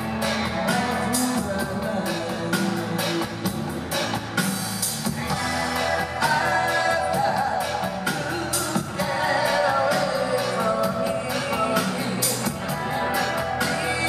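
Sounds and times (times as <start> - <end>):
bass line: 0.0 - 14.0
drum kit beat: 0.0 - 14.0
electric guitars: 0.0 - 14.0.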